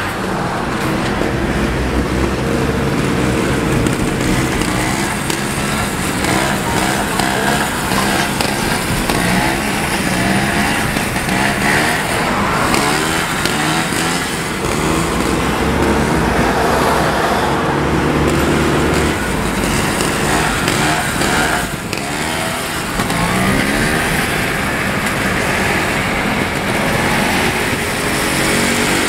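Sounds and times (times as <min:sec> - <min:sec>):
car running: 0:00.0 - 0:29.0
motorcycle engine revving: 0:00.0 - 0:29.0
road noise: 0:00.0 - 0:29.0.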